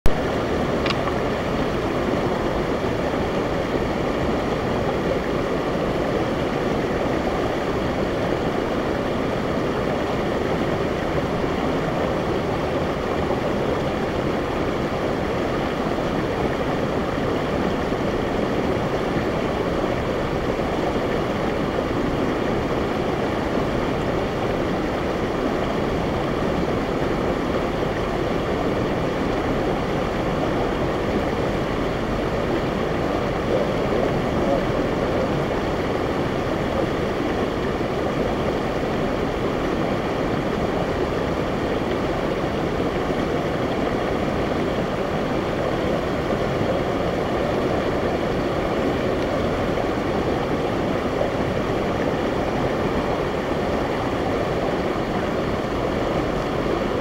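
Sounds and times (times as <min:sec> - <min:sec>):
stream rushing over boulders: 0:00.1 - 0:57.0.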